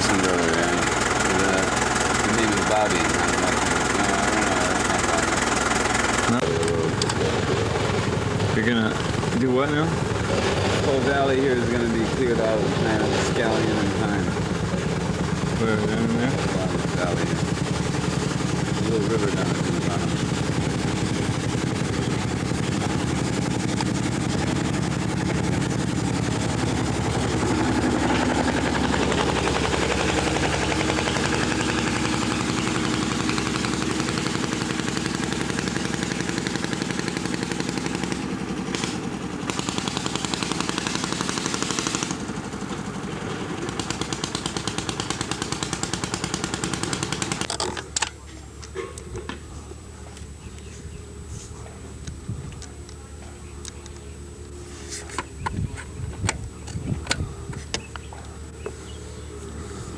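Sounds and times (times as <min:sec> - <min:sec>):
motor running with rapid pulsing: 0:00.0 - 0:59.9.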